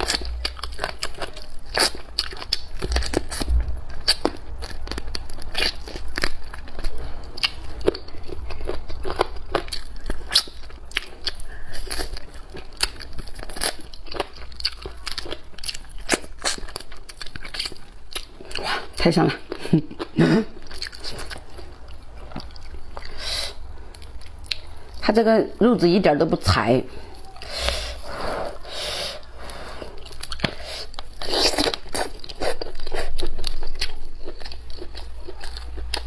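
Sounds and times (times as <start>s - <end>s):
wet chewing with mouth clicks: 0.0s - 25.0s, 27.1s - 36.0s.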